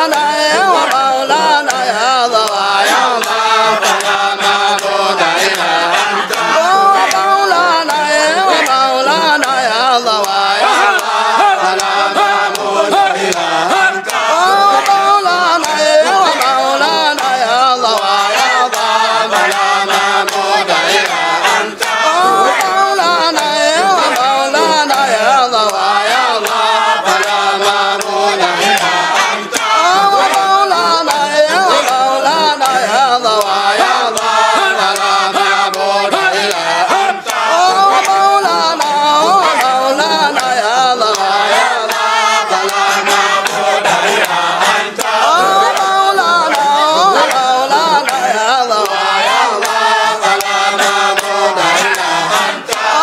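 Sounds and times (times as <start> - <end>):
men chanting together: 0.0 - 53.0.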